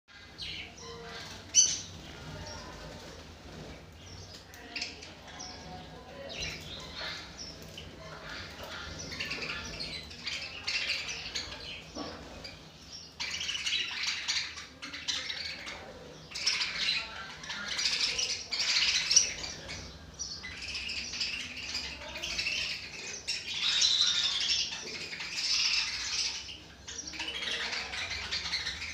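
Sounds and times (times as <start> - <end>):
lovebirds chirping and chattering: 0.1 - 28.9.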